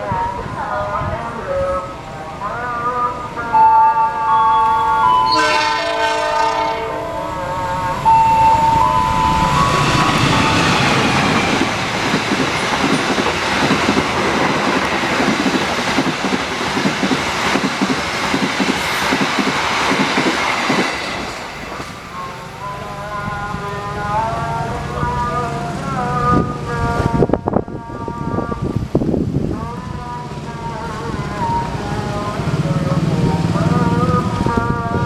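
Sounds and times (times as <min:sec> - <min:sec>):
passenger train passing: 0:00.0 - 0:35.0.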